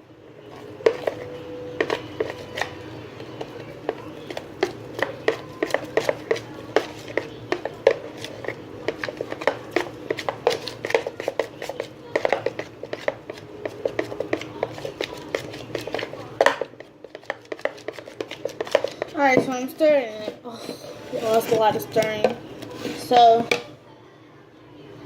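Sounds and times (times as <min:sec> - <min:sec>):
utensil stirring sticky mixture: 0:00.0 - 0:23.7
utensil clacking against bowl: 0:00.8 - 0:23.7.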